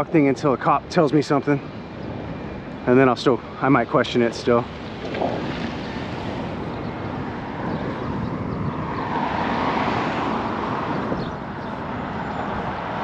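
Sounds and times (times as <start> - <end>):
road traffic passing: 0.0 - 13.0
wind buffeting microphone: 0.0 - 13.0.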